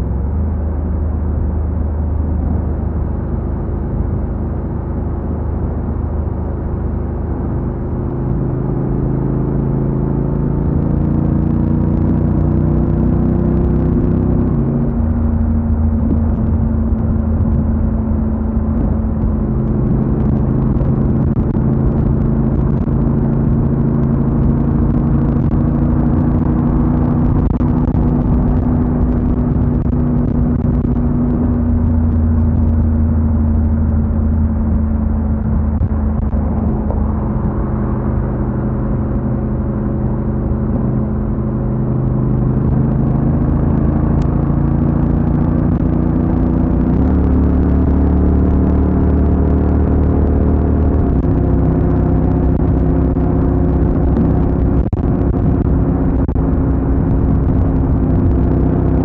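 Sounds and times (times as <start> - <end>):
motorcycle engine running: 0.0 - 59.0
road and wind noise: 0.0 - 59.0.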